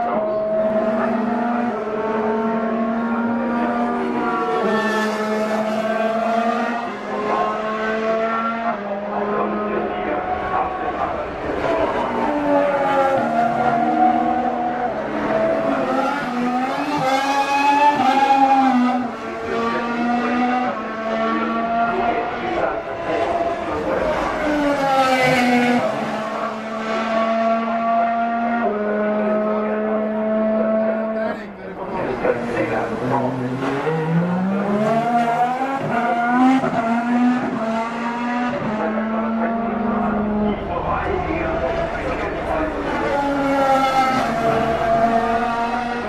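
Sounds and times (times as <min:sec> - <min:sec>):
race car engine at speed: 0:00.0 - 0:46.0.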